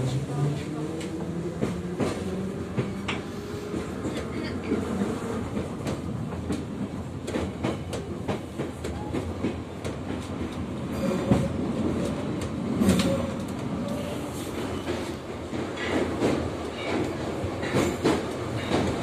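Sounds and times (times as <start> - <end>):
train wheels rumbling on rails: 0.0 - 19.0
rail joint clicks: 0.1 - 19.0.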